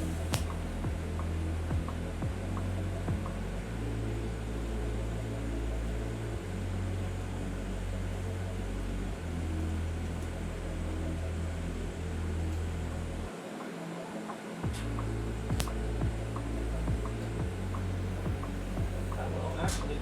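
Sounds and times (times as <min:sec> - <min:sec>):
music with deep bass line: 0:00.0 - 0:20.0.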